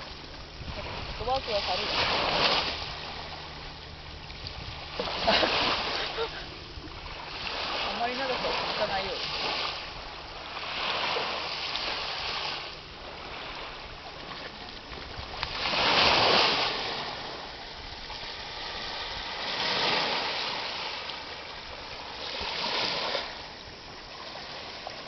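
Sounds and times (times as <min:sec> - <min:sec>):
sea waves washing on a beach: 0:00.0 - 0:25.0.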